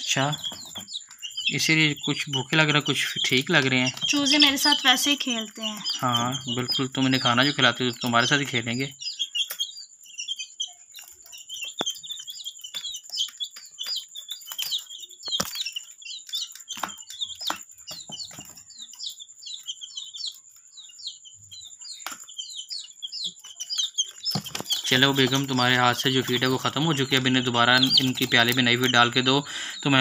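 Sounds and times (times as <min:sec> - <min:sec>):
chicks cheeping: 0:00.0 - 0:30.0.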